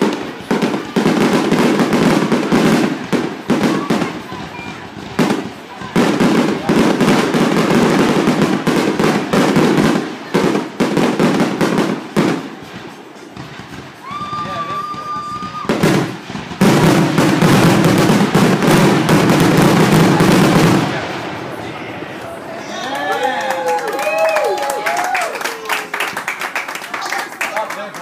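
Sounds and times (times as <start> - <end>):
high firework whistle: 0.0 - 26.2
fireworks cracking and banging: 0.0 - 28.0.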